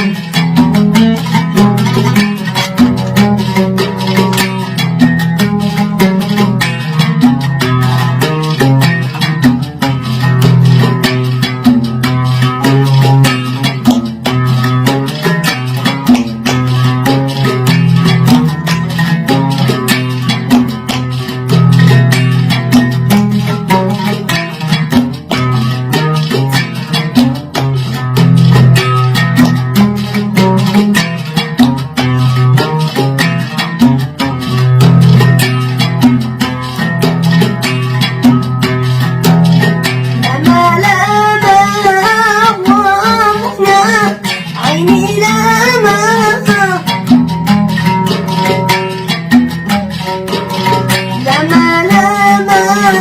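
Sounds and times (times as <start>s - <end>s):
plucked lute melody: 0.0s - 53.0s.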